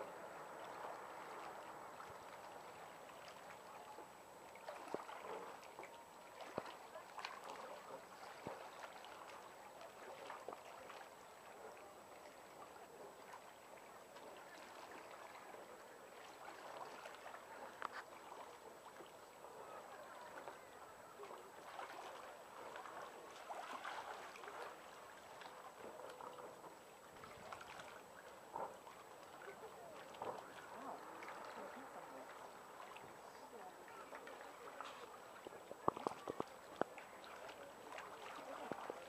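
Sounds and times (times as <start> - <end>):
water lapping: 0.0 - 39.0.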